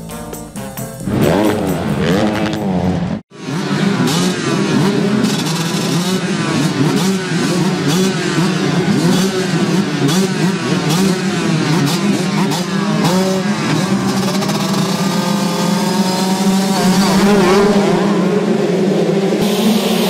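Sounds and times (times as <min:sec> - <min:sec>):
motocross bikes revving: 0:01.0 - 0:20.0.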